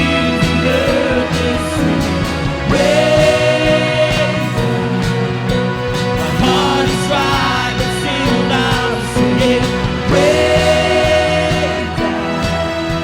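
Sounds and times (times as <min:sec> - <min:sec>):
bass: 0:00.0 - 0:13.0
drums: 0:00.0 - 0:13.0
keyboard chords: 0:00.0 - 0:13.0
person singing: 0:00.0 - 0:13.0.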